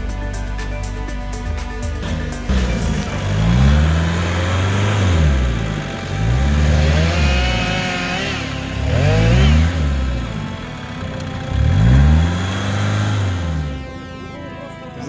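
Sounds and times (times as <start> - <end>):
engine revving: 0.0 - 14.6.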